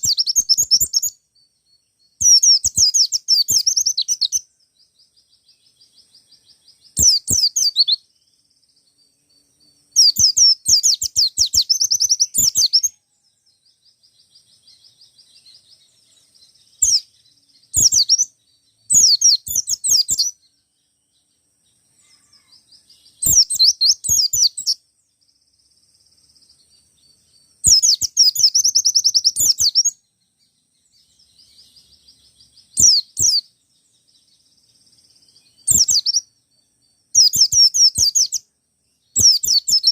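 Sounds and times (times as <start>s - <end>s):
faint bird twittering: 0.0s - 39.9s.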